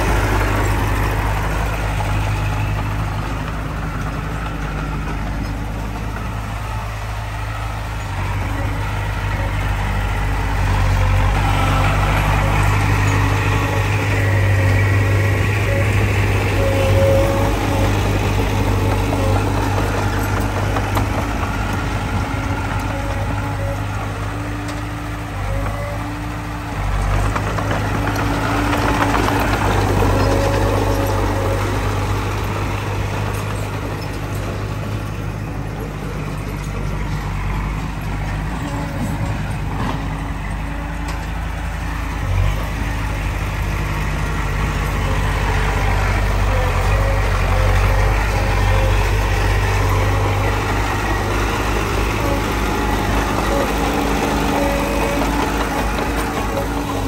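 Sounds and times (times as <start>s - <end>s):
bulldozer diesel engine drone: 0.0s - 57.0s.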